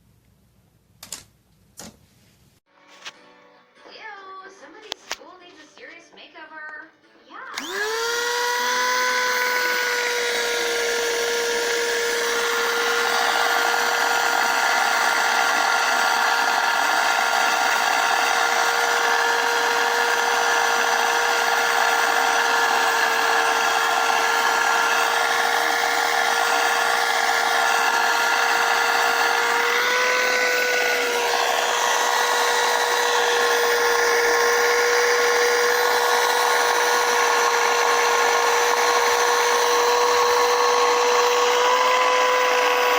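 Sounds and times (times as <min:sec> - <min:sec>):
vacuum cleaner running: 0:07.5 - 0:42.9.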